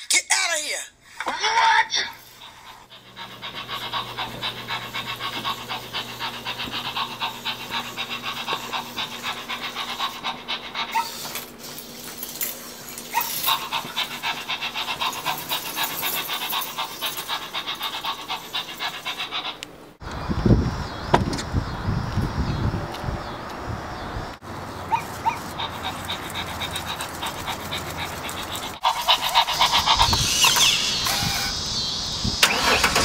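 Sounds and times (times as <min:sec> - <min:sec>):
robot dog panting: 0:01.6 - 0:20.0, 0:24.7 - 0:33.0.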